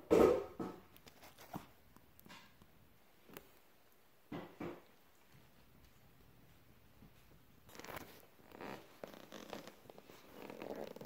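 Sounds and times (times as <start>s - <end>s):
soft rustle: 0.9s - 4.0s, 4.9s - 11.0s.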